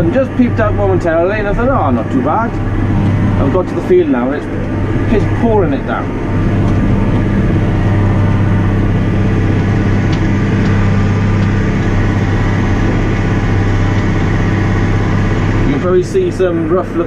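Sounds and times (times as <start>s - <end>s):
tractor diesel engine droning: 0.0s - 17.0s.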